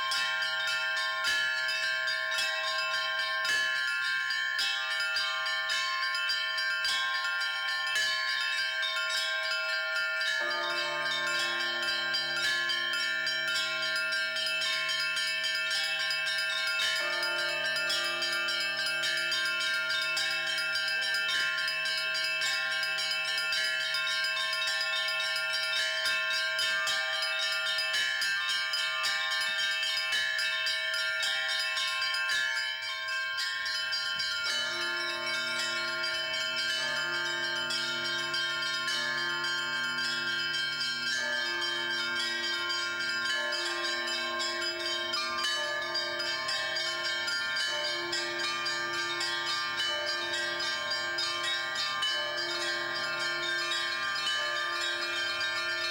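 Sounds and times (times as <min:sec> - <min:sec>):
deep church bells: 0:00.0 - 0:55.9
small high bells ringing rapidly: 0:00.0 - 0:55.9.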